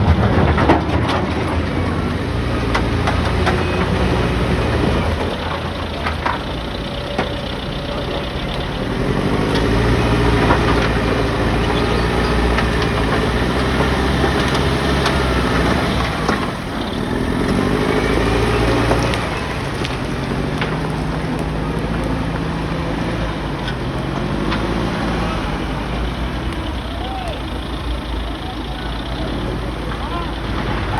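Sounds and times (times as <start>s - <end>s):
heavy diesel engine running: 0.0s - 30.9s
knocks and clanks: 0.0s - 30.9s.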